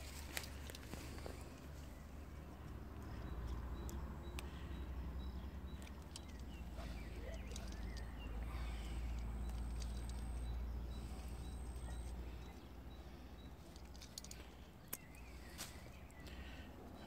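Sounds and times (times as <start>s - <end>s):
faint high bird chirps: 1.2s - 17.0s.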